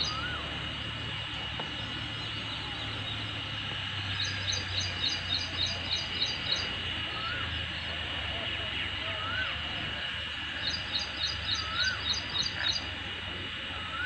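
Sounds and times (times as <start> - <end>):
constant thin high tone: 0.0 - 14.0.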